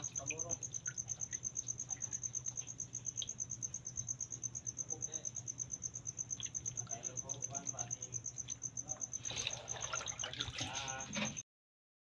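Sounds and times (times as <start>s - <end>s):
cricket trilling: 0.0s - 11.4s
faint low hum: 0.0s - 11.4s.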